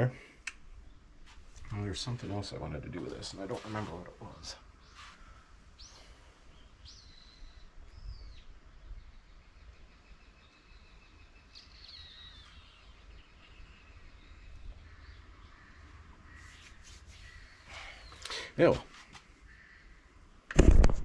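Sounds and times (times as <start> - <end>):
faint bird calls: 3.6 - 20.5.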